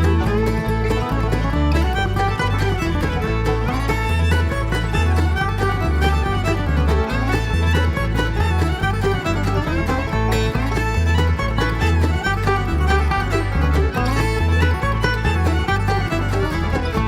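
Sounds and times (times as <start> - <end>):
upbeat bluegrass music: 0.0 - 17.0.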